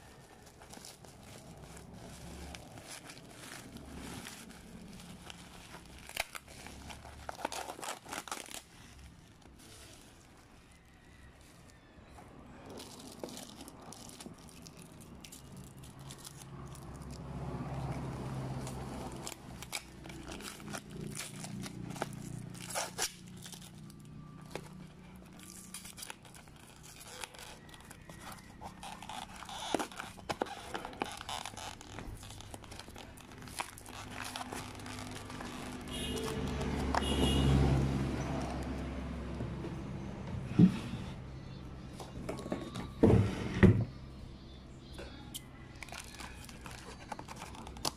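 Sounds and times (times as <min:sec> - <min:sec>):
cardboard and tape tearing: 0:00.0 - 0:10.6, 0:12.7 - 0:38.7, 0:45.8 - 0:47.9.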